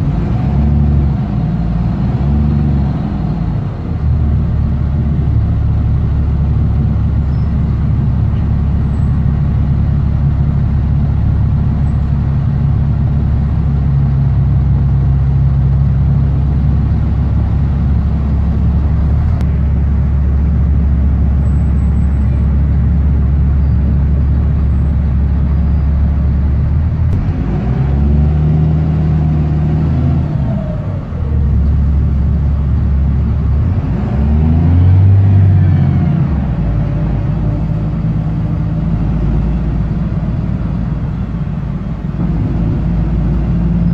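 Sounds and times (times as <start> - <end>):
bus engine drone: 0.0 - 43.9.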